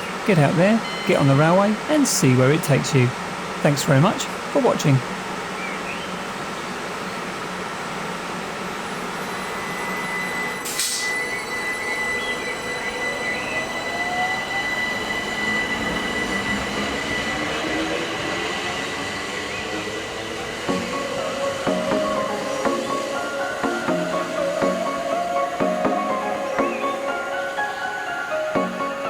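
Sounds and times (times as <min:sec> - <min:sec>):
electric train traction whine: 0:00.0 - 0:29.0.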